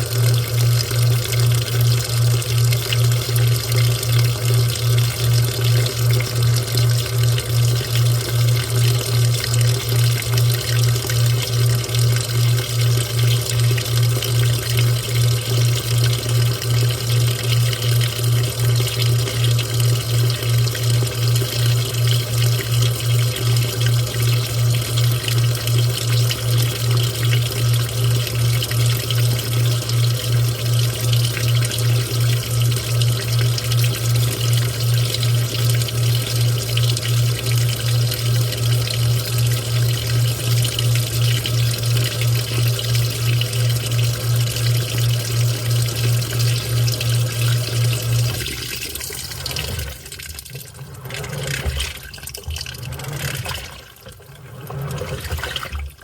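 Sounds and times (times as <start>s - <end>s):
pulsing low motor hum: 0.0s - 49.9s
washing machine moving water: 0.0s - 56.0s
water trickling and sloshing: 0.0s - 56.0s.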